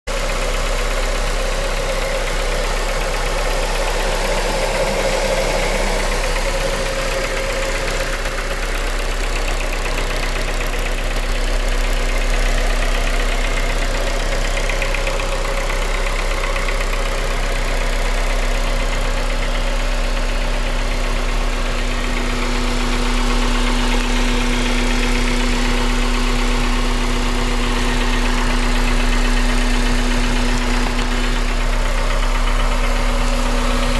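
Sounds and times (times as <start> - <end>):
car engine running: 0.1 - 33.9
light engine knock: 0.1 - 33.9.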